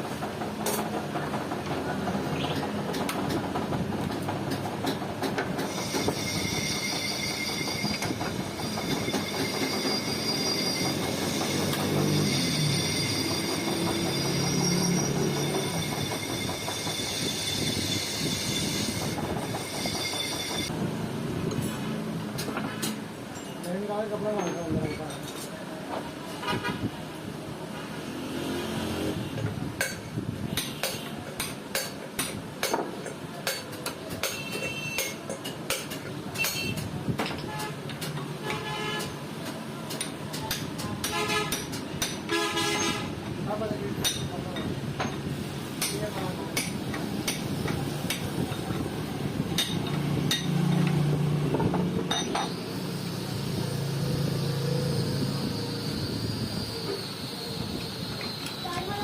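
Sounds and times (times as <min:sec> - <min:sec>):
street traffic: 0:00.0 - 0:59.0.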